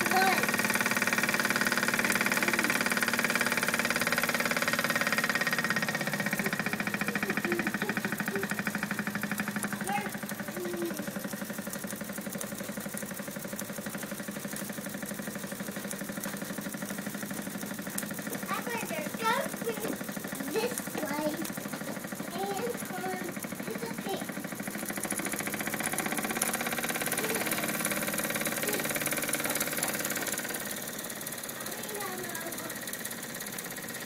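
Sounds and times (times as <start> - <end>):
line shaft whirring: 0.0 - 34.0
toy steam engine beating: 0.0 - 34.0.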